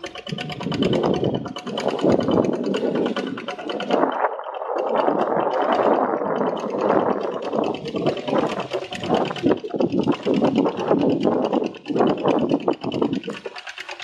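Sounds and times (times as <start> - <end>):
diesel tractor engine chugging: 0.0 - 14.0.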